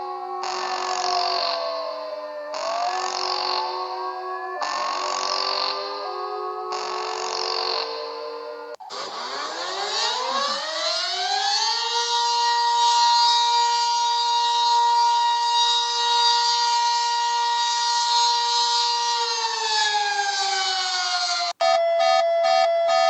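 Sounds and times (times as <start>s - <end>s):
siren wailing: 0.0s - 23.0s.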